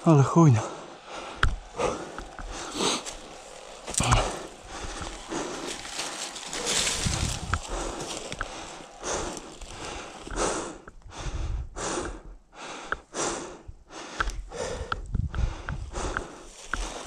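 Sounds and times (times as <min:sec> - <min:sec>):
person panting: 0:00.5 - 0:17.0.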